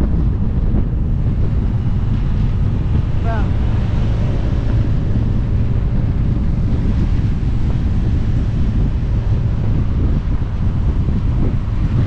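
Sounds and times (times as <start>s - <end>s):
motorcycle engines running: 0.0s - 12.0s
wind rumbling on microphone: 0.0s - 12.0s.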